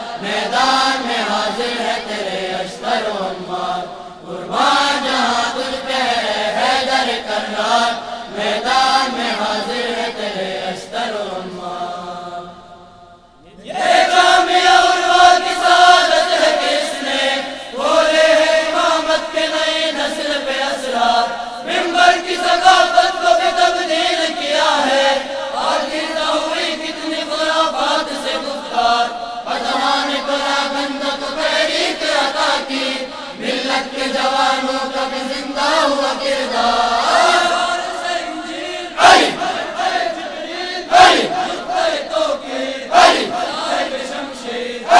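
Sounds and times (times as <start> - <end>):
boy singing chant-like lines: 0.0 - 44.9.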